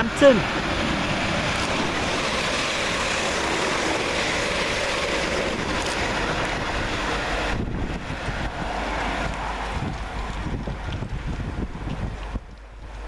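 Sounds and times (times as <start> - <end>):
electric train passing at speed: 0.0 - 13.0.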